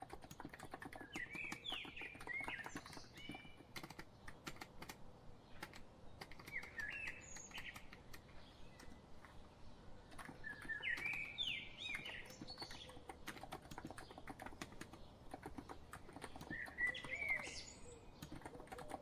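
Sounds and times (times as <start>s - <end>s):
keyboard key clicks: 0.0s - 5.0s, 5.6s - 9.4s, 10.1s - 17.5s, 18.2s - 19.0s
birdsong chirps: 0.0s - 19.0s.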